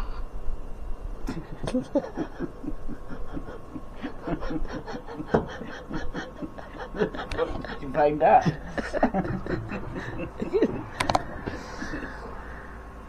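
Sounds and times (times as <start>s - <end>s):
quick repeated chuckles: 1.2s - 12.6s.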